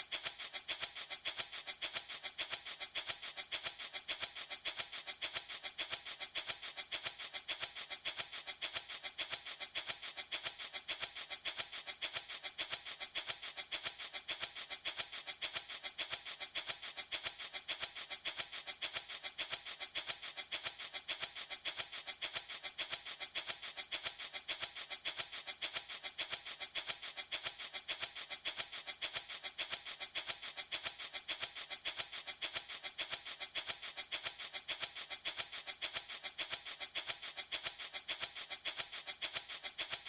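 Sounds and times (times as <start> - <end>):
wooden baby rattle shaken: 0.0 - 40.0.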